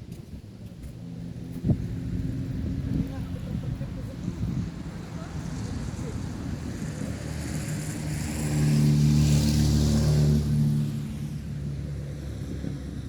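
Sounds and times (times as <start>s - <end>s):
passing vehicle engine hum: 1.0s - 13.0s.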